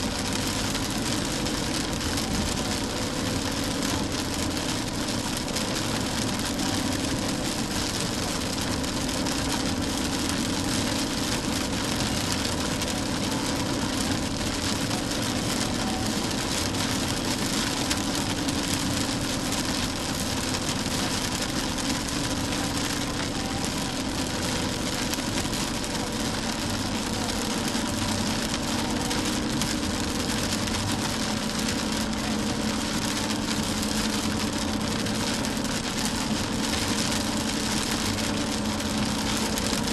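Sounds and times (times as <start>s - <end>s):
car engine drone: 0.0s - 39.9s
rain hiss: 0.0s - 39.9s
wet tyres on road: 0.0s - 39.9s.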